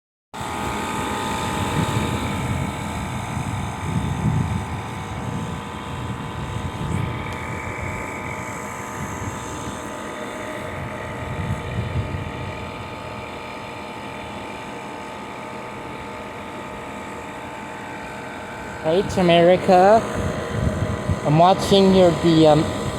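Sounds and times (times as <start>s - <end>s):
air conditioner mechanical hum: 0.4s - 22.9s
fan airflow noise: 0.4s - 22.9s.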